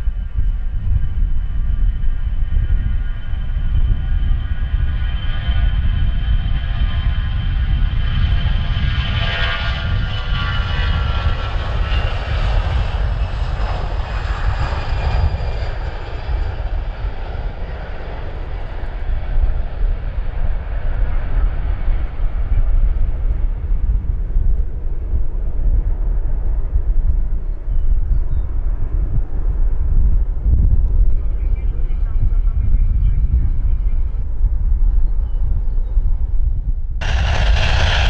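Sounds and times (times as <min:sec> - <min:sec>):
jet engine whine: 0:00.0 - 0:38.0
low rumble: 0:00.0 - 0:38.0.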